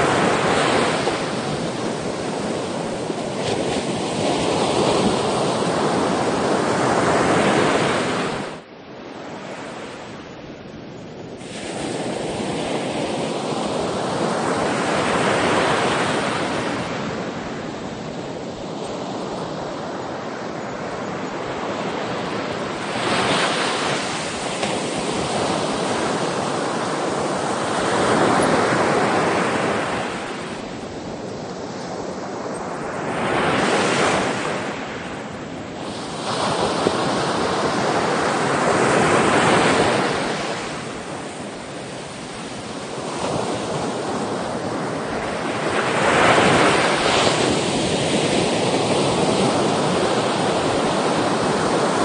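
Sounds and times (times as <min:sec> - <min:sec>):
waves breaking: 0:00.0 - 0:08.6, 0:11.4 - 0:52.0.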